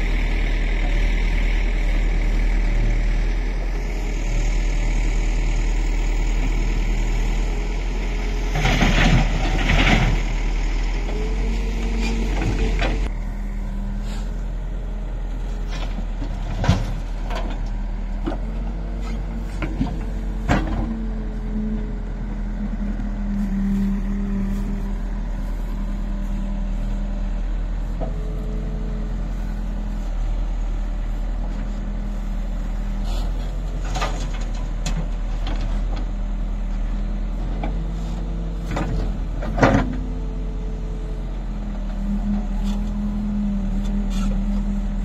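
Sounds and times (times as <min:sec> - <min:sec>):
diesel engine under load: 0:00.0 - 0:45.0.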